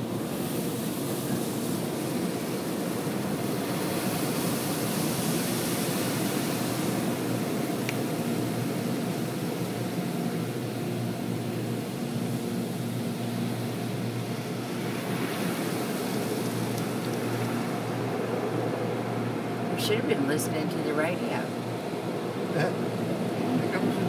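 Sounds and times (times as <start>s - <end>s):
machinery hum: 0.0s - 24.0s.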